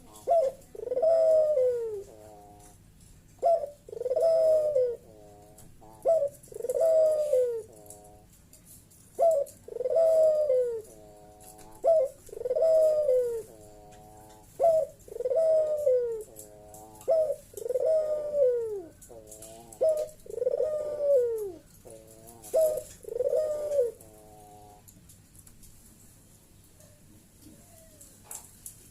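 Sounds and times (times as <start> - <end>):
dove cooing: 0.0 - 8.4, 9.1 - 24.9.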